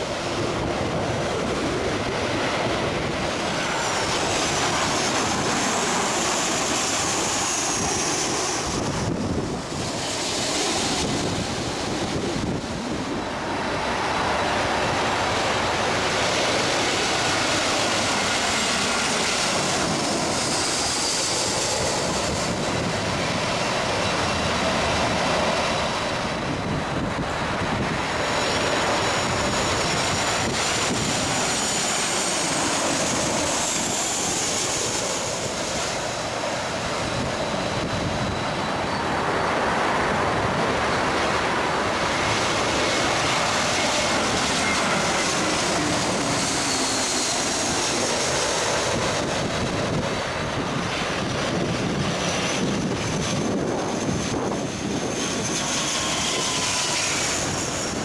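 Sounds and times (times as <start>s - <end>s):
jet airliner engines: 0.0s - 58.0s.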